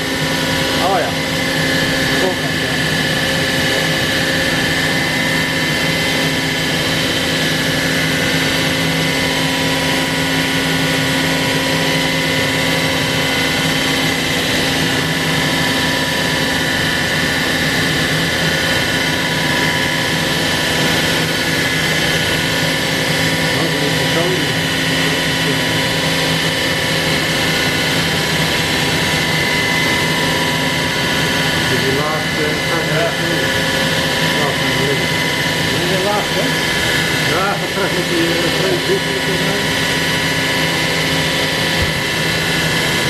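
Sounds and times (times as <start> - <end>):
router spindle whining: 0.0 - 43.0.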